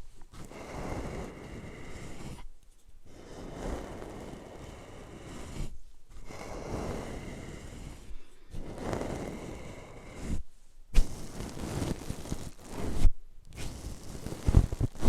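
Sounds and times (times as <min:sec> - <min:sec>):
brush rubbing on microphone: 0:00.0 - 0:15.0.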